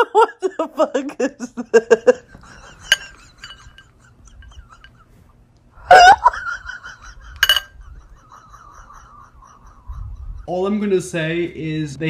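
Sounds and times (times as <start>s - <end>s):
person laughing: 0.0s - 5.2s, 5.8s - 10.9s.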